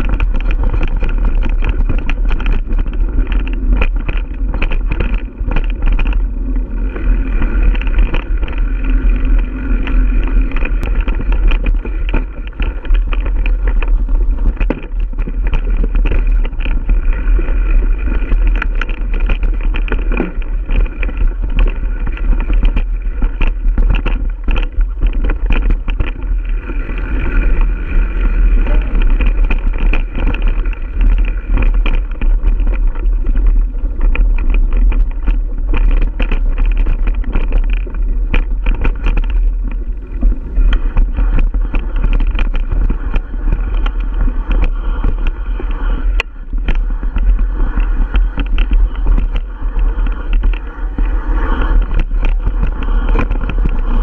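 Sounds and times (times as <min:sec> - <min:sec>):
bike rattling over rocks: 0:00.0 - 0:54.0
tyres rumbling on dirt trail: 0:00.0 - 0:54.0
wind on microphone: 0:00.0 - 0:54.0.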